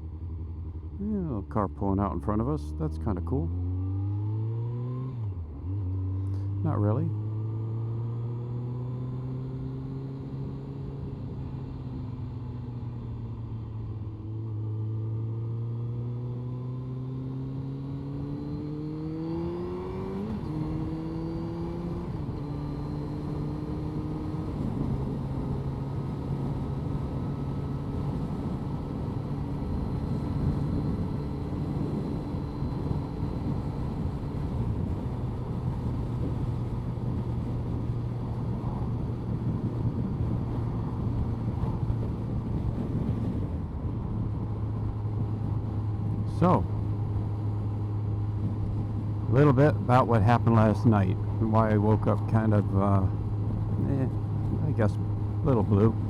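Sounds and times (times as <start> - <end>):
wind and road noise: 0.0 - 56.0
motorcycle engine accelerating: 2.5 - 56.0.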